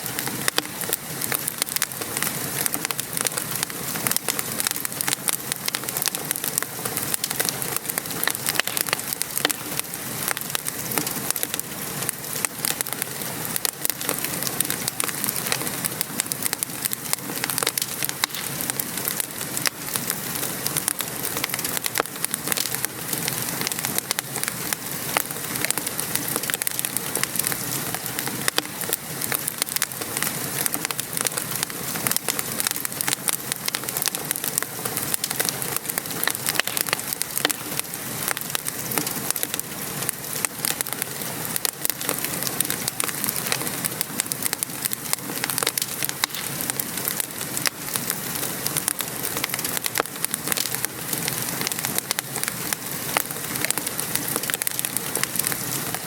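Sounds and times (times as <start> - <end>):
rain patter: 0.0 - 56.0
wood fire crackling: 0.0 - 56.0.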